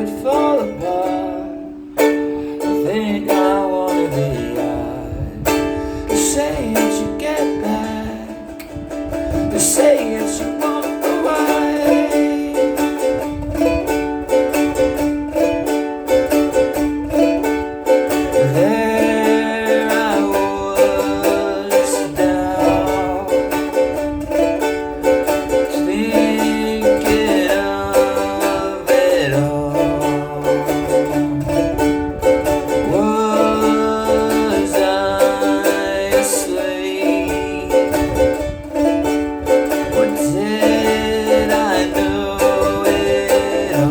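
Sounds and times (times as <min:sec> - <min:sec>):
person singing: 0:00.0 - 0:43.9
plucked string instrument tune: 0:00.0 - 0:43.9.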